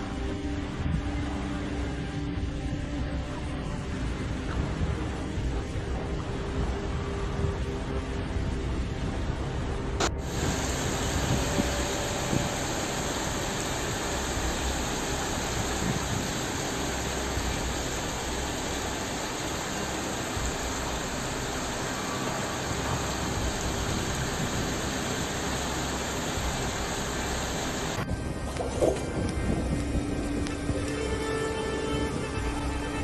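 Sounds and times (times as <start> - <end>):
rain and rushing floodwater: 0.0 - 33.0.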